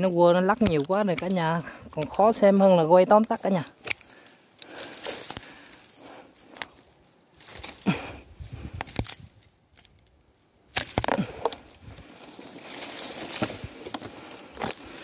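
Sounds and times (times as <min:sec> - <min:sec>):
bamboo stems creaking and cracking: 0:00.0 - 0:15.0
leaves and branches rustling: 0:00.0 - 0:15.0.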